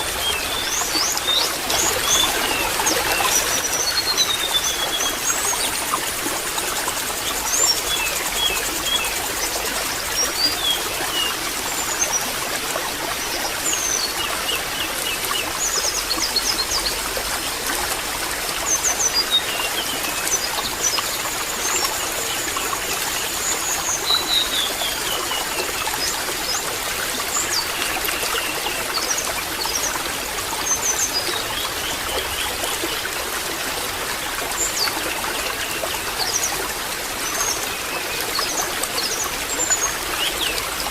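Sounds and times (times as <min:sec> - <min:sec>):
trickling babbling water: 0:00.0 - 0:40.9.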